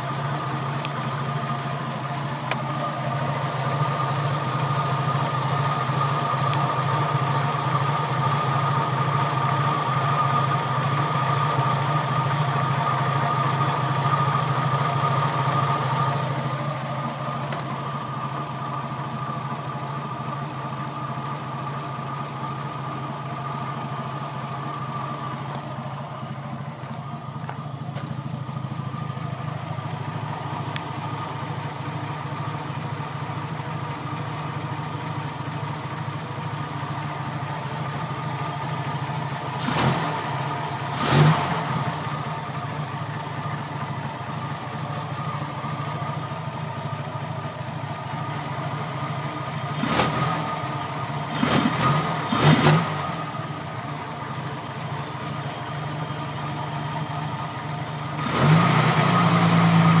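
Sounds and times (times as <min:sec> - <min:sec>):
truck engine idling: 0:00.0 - 1:00.0.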